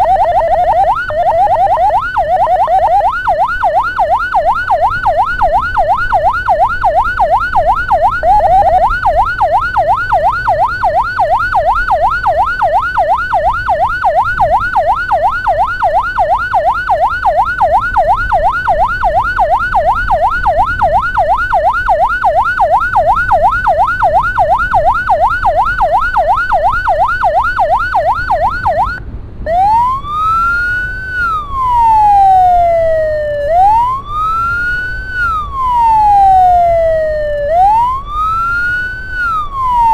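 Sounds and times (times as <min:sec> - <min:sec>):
ambulance siren: 0:00.0 - 0:39.9.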